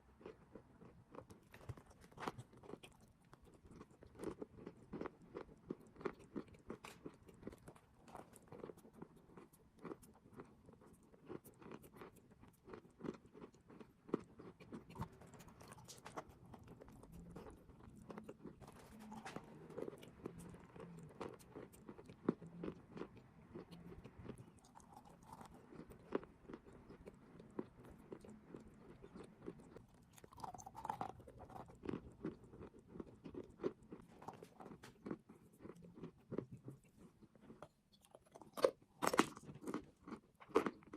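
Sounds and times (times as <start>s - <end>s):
chalk crunching while chewed: 0.2s - 40.9s.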